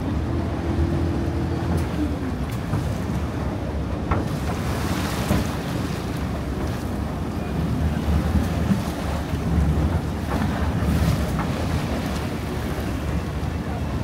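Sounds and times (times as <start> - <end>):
boat engine droning: 0.0 - 14.0
water rushing along hull: 0.0 - 14.0.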